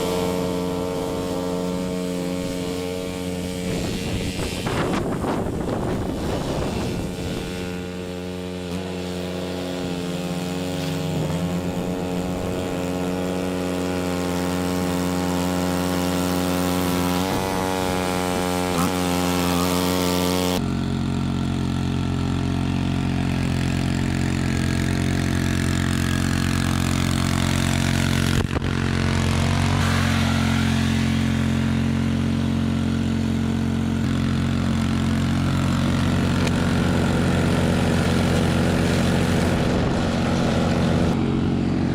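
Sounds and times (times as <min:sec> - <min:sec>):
snow blower engine running: 0:00.0 - 0:41.9.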